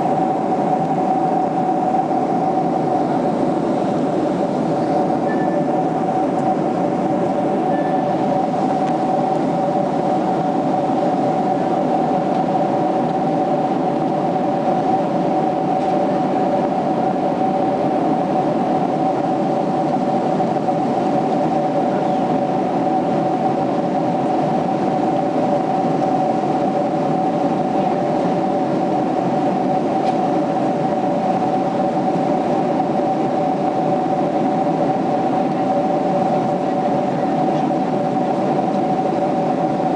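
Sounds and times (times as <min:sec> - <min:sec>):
airplane cabin airflow rush: 0:00.0 - 0:39.9
steady humming tones: 0:00.0 - 0:39.9.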